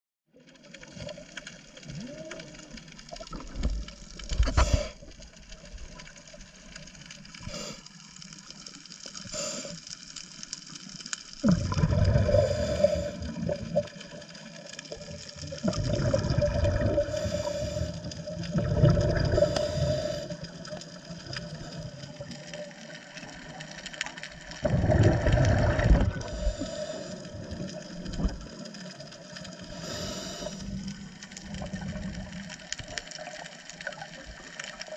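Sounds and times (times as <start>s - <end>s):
exhaled bubbles gurgling underwater: 0.4s - 34.9s
steady underwater hiss: 1.0s - 34.9s.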